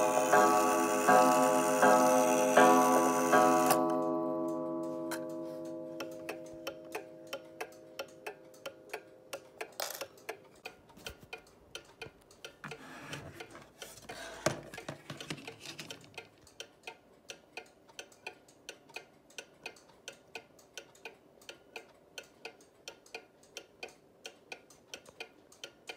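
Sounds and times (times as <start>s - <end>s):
clock ticking: 0.0s - 25.9s.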